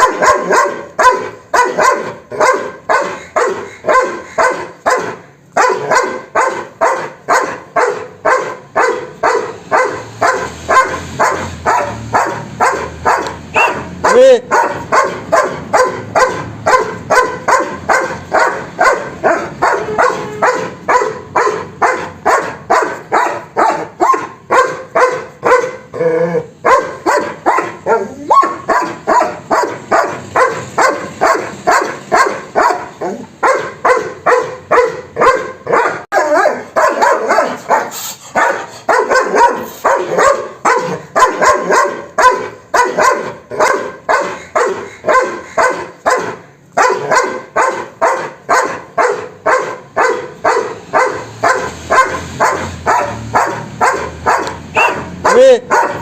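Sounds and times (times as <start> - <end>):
dog barking rapidly: 0.0 - 56.0.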